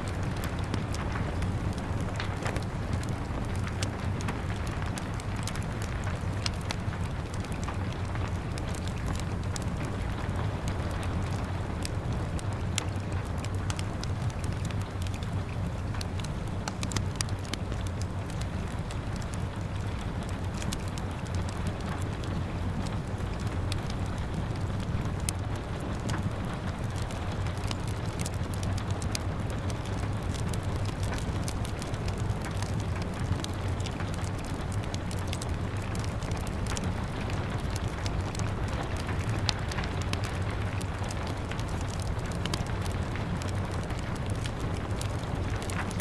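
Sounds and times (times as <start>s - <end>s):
rain: 0.0s - 46.0s
wood fire crackling: 0.0s - 46.0s.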